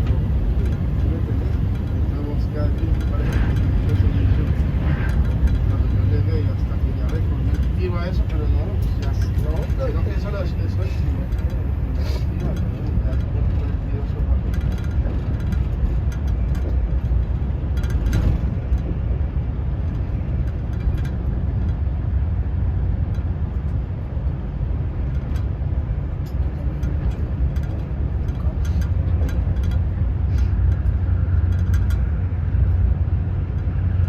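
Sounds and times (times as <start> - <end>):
light clicks and rattles: 0.0 - 19.1, 19.7 - 34.0
train rumbling: 0.0 - 34.0.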